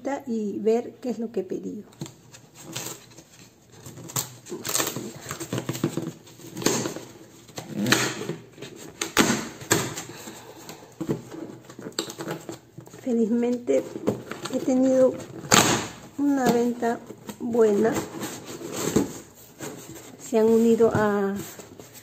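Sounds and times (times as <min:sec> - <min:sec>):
cardboard ripping: 0:02.0 - 0:13.0, 0:13.9 - 0:22.0
cardboard scratching and rustling: 0:02.0 - 0:22.0.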